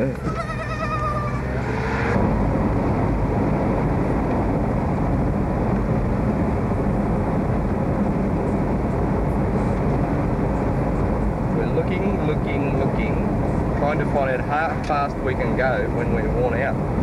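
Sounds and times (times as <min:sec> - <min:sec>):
car engine running: 0:00.0 - 0:17.0
tyre and road noise: 0:00.0 - 0:17.0.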